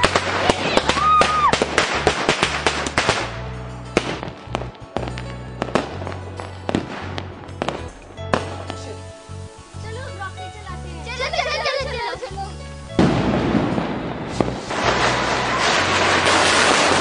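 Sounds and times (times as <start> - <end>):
background music: 0.0 - 17.0
firecrackers bursting: 0.0 - 17.0.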